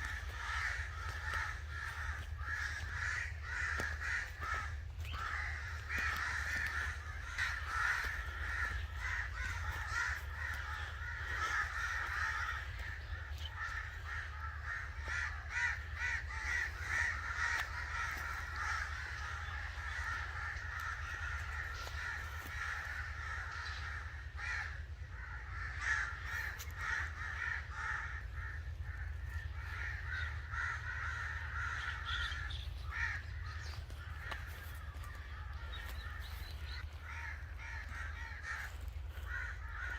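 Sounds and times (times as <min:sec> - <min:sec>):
crows cawing: 0:00.0 - 0:39.9
steady low hum: 0:00.0 - 0:39.9.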